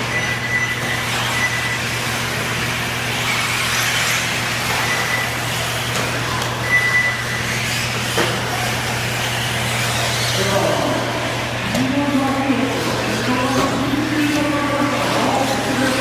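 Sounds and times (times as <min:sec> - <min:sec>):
high motor whines: 0:00.0 - 0:16.0
noisy wash: 0:00.9 - 0:16.0.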